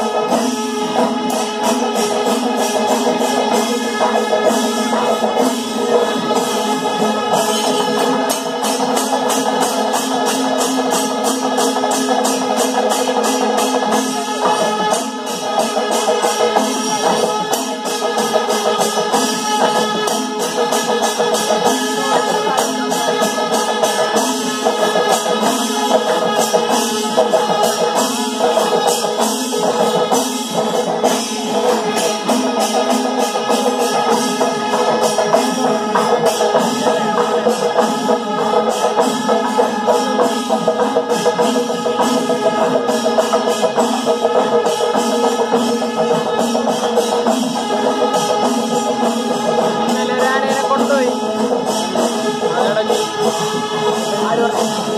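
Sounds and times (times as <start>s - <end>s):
drums beaten in fast rhythm: 0.0s - 54.9s
hand cymbals clashing: 0.0s - 54.9s
steady ringing tones: 0.0s - 54.9s.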